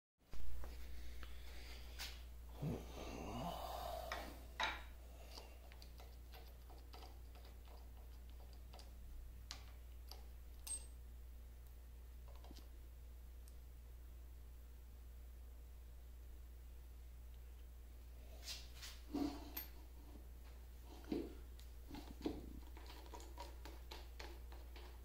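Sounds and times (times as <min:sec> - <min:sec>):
low steady hum: 0:00.3 - 0:25.0.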